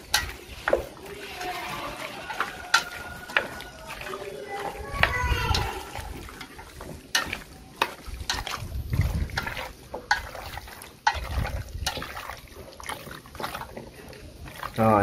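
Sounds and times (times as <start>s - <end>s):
wet squelching of meat mixed by hand: 0.0s - 15.0s.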